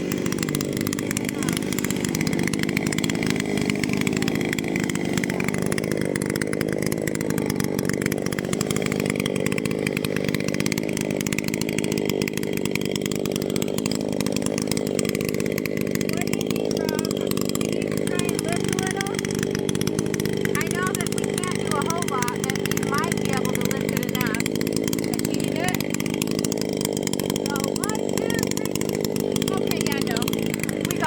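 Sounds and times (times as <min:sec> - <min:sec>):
chainsaw cutting tree: 0:00.0 - 0:31.0.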